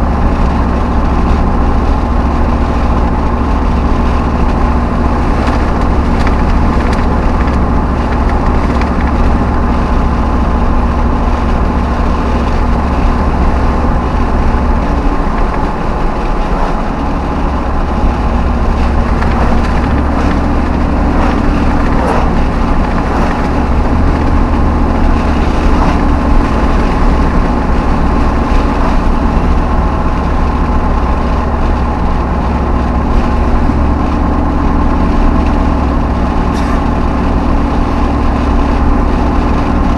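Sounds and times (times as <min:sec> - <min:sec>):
pickup truck engine drone: 0:00.0 - 0:39.9
road noise: 0:00.0 - 0:39.9.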